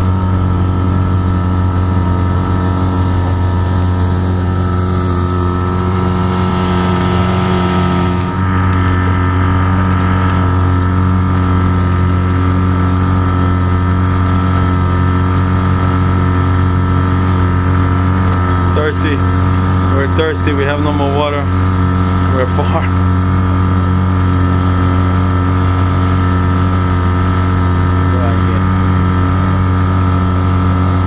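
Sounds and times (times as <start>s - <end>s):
outboard motor droning: 0.0s - 31.0s.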